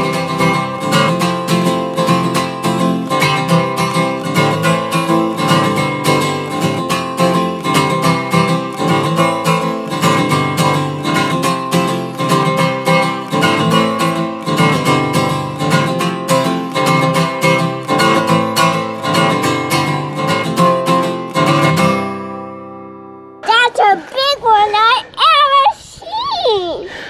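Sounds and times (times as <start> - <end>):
strummed acoustic guitar music: 0.0 - 24.9.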